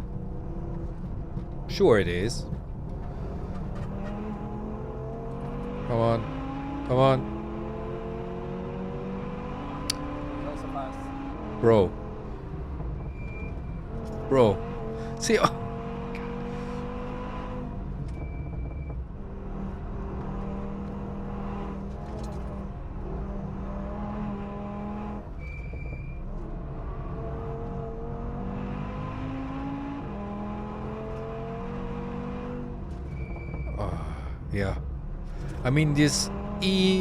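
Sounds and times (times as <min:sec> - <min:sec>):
gear upshifts: 0:00.0 - 0:34.5
car engine accelerating: 0:00.0 - 0:37.0.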